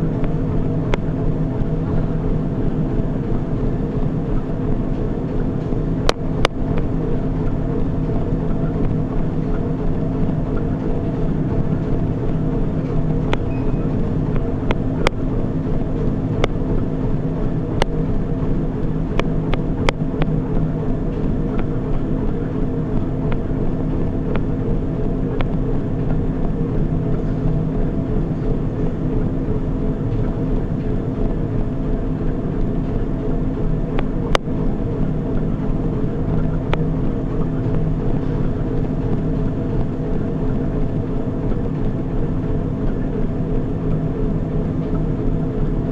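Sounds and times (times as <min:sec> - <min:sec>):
treadmill motor humming: 0:00.0 - 0:45.9.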